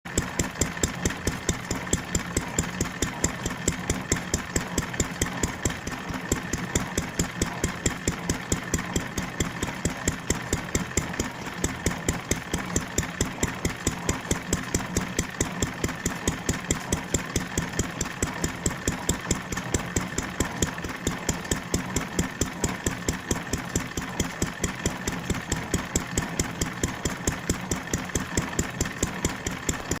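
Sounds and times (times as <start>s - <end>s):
stationary engine running: 0.1s - 30.0s.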